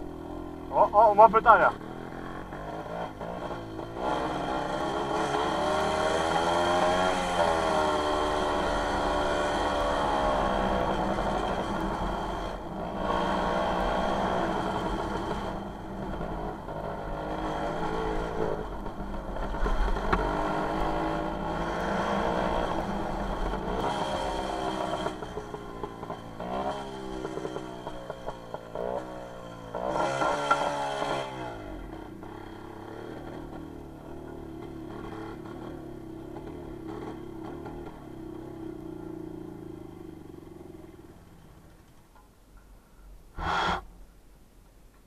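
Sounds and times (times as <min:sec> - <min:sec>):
two-stroke motorcycle engine revving: 0:00.0 - 0:41.2.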